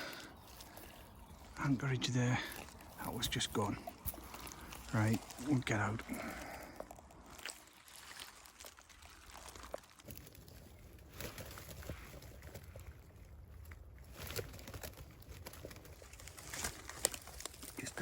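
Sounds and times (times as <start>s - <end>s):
dry vegetation rustling: 0.0s - 18.0s.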